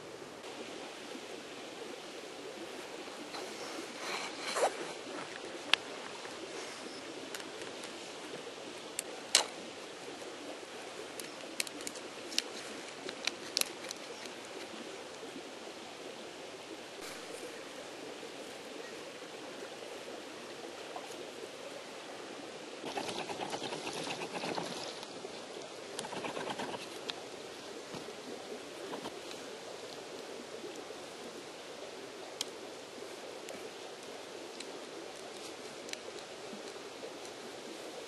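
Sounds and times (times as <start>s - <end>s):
creek rushing: 0.0s - 38.0s.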